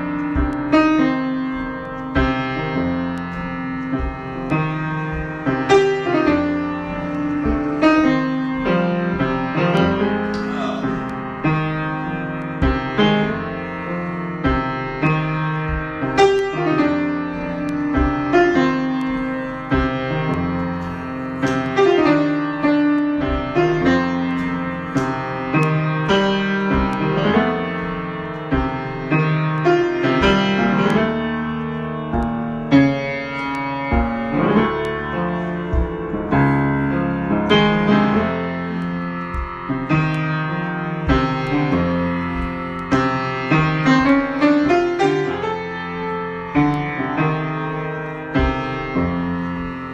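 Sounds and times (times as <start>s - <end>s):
improvised piano music: 0.0s - 49.9s.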